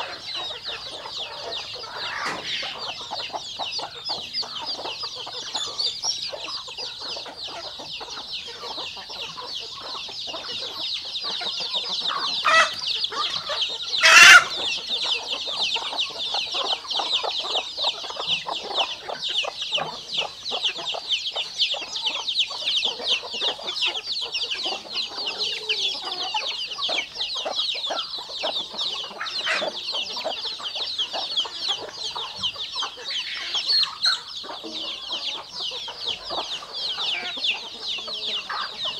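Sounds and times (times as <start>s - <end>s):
chicks peeping: 0.0s - 38.9s
hens clucking: 0.0s - 38.9s.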